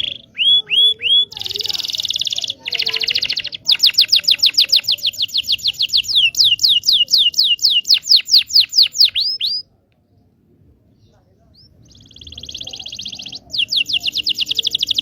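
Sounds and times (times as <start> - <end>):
canary singing: 0.0 - 9.7, 11.0 - 15.0.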